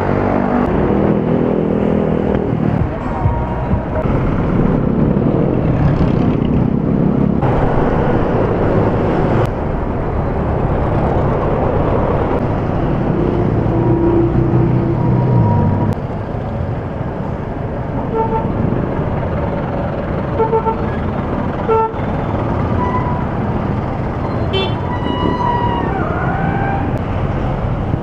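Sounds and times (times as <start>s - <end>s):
busy street traffic: 0.0s - 28.0s
engine noise: 0.0s - 28.0s.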